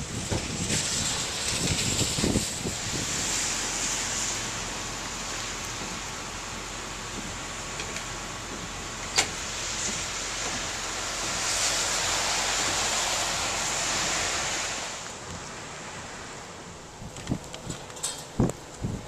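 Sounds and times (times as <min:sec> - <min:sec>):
storm wind and rain: 0:00.0 - 0:19.0.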